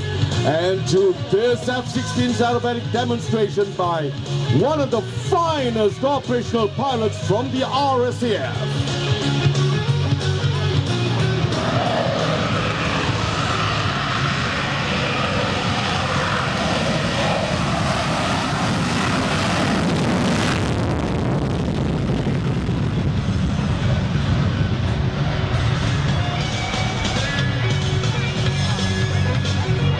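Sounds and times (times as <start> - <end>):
jet engine roaring: 0.0 - 29.9.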